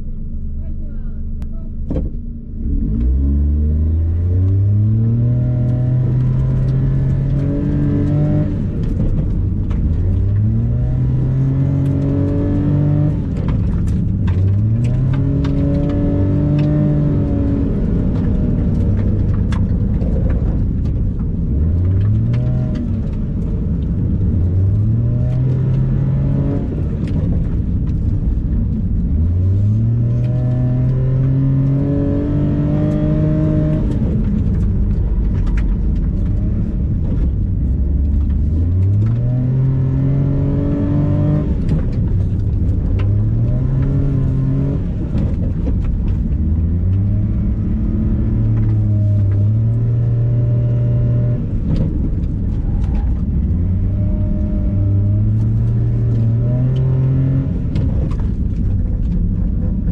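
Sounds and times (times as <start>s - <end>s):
car engine revving: 0.0s - 59.9s
sharp clicks and knocks: 5.7s - 31.8s, 32.4s - 40.1s, 40.8s - 50.1s, 51.2s - 59.9s.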